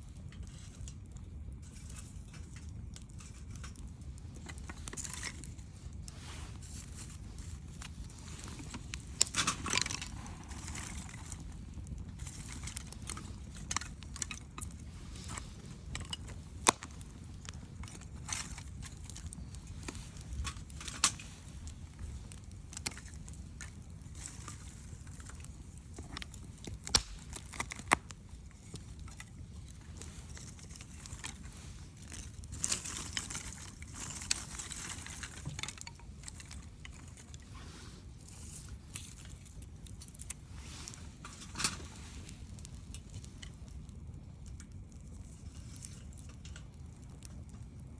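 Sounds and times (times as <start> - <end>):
fire hissing: 0.0 - 47.9
low steady rumble: 0.0 - 47.9
wood fire crackling: 0.0 - 47.9.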